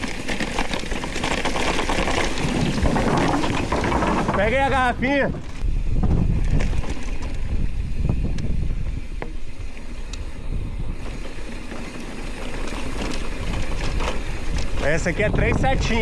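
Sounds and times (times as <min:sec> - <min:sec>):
wind buffeting microphone: 0:02.1 - 0:11.7, 0:12.4 - 0:16.0.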